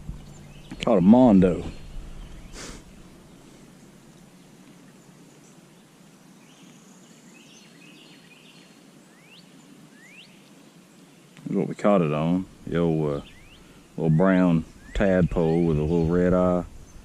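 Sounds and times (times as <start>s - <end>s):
distant bird chirps: 0.0s - 5.7s, 6.3s - 17.0s.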